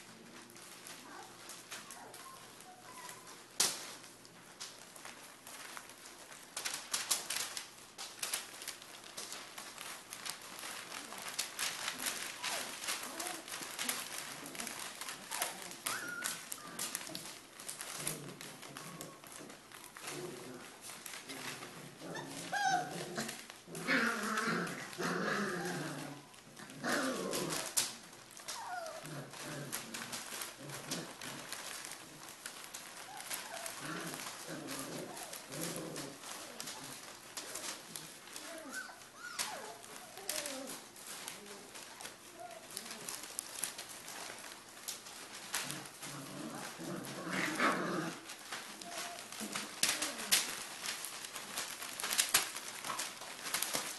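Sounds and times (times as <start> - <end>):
puppy paws scrabbling on paper: 0.0 - 53.9.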